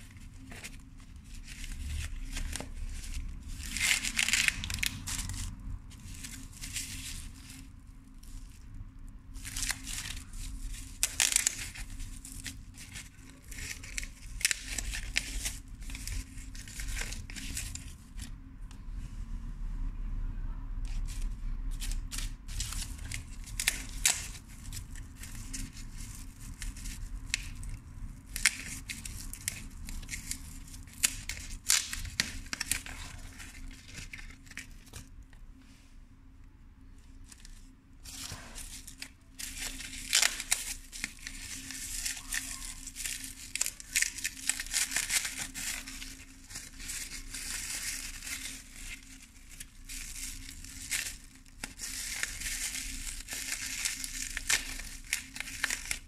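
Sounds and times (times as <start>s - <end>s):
paper and plastic rustling: 0.0s - 8.7s, 9.3s - 18.4s, 20.8s - 35.7s, 37.0s - 56.0s.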